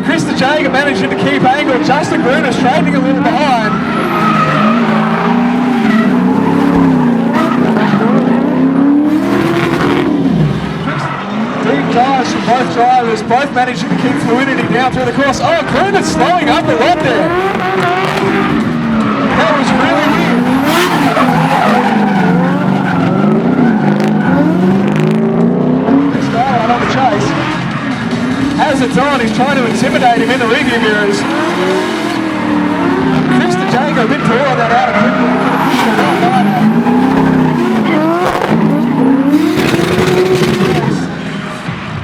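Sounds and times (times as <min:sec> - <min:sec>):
car engines revving high: 0:00.0 - 0:42.0
tyres skidding and squealing: 0:00.0 - 0:42.0.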